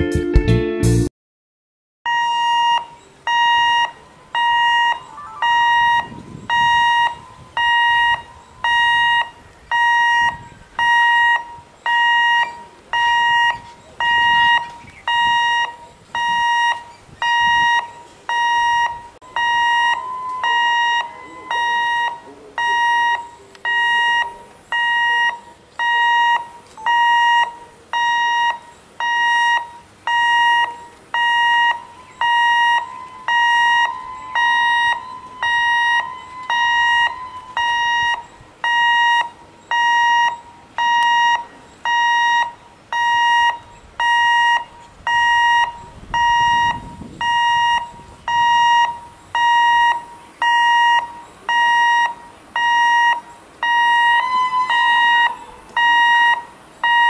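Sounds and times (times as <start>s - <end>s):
level crossing alarm beeping: 2.1s - 57.0s.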